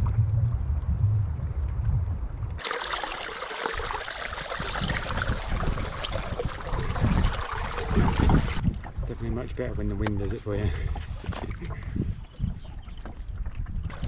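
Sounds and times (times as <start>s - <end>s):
wind buffeting microphone: 0.0s - 2.6s, 3.7s - 14.0s
water rushing along canoe: 2.6s - 14.0s.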